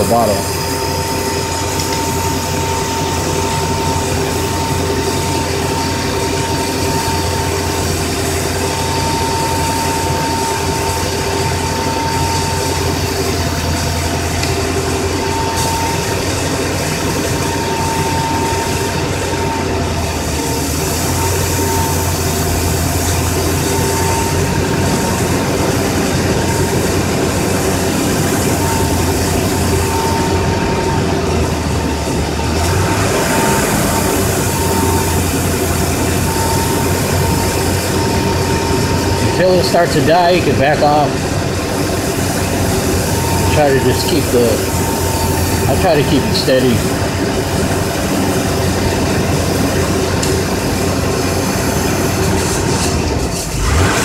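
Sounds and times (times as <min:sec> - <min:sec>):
thin high tone: 0:00.0 - 0:47.0.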